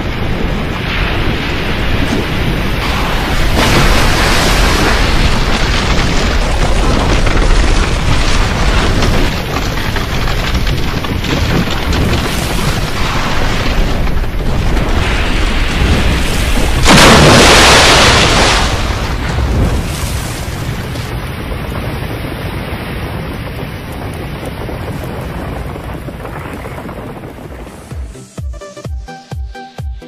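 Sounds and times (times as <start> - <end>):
churning surf: 0.0 - 28.0
wind buffeting microphone: 0.0 - 28.2.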